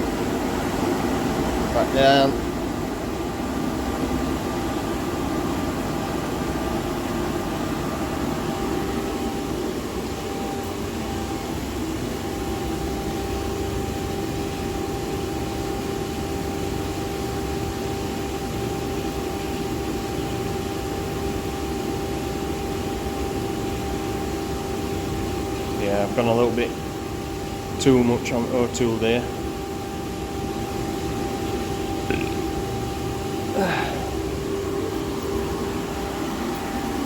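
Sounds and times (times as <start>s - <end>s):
boiler burner rushing hum: 0.0s - 37.0s.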